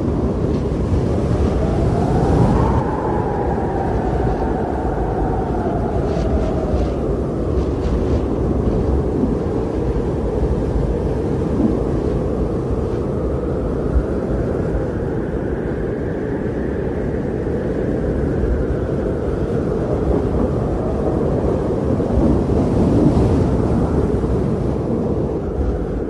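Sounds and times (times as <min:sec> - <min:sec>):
strong blizzard wind: 0:00.0 - 0:26.0.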